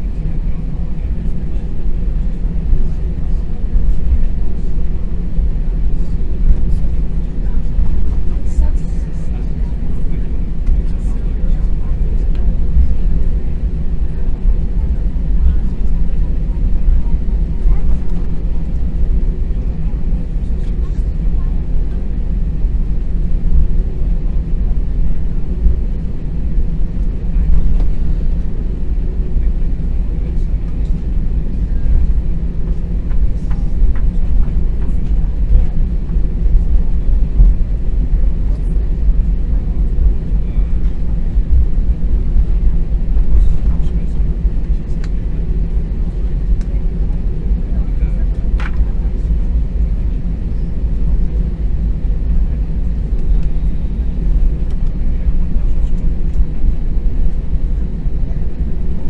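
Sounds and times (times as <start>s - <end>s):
aircraft engines rumbling: 0.0s - 59.0s.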